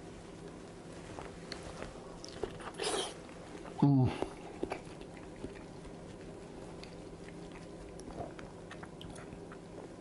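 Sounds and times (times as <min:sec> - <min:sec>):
person chewing food: 0:01.5 - 0:10.0.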